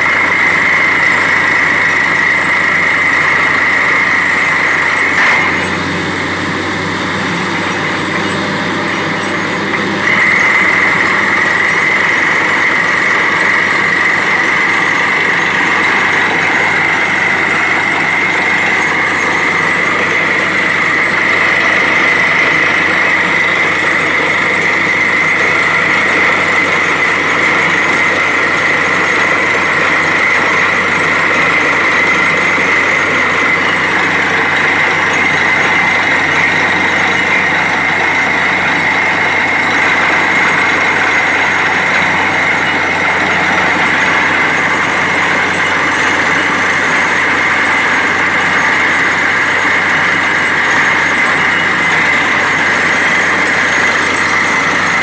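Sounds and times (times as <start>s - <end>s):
drilling rig running loudly: 0.0s - 55.0s.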